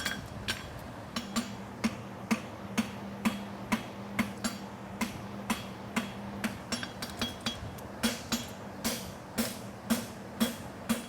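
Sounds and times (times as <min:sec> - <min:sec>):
hammer striking steel on anvil: 0:00.0 - 0:11.0.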